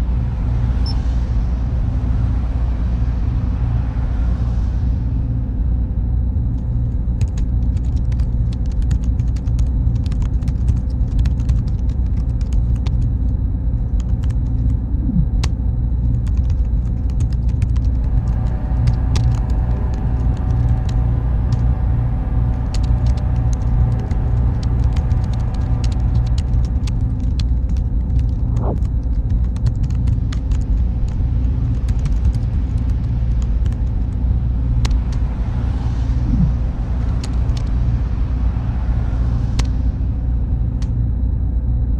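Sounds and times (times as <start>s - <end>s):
faint hum tones: 0.0s - 41.9s
low machine rumble: 0.0s - 41.9s.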